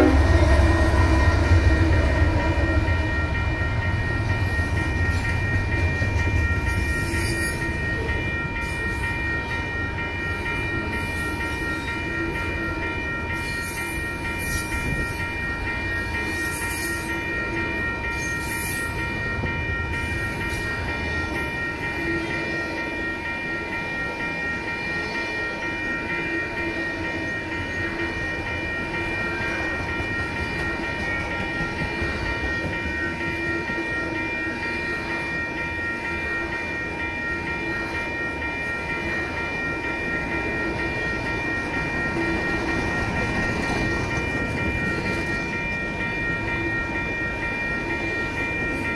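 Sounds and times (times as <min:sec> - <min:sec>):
steady high-pitched tone: 0:00.0 - 0:48.9
train wheels rumbling on rails: 0:00.0 - 0:48.9.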